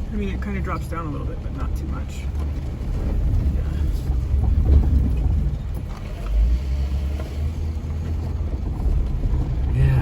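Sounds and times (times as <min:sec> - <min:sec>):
engine and tyres rumbling: 0:00.0 - 0:10.0.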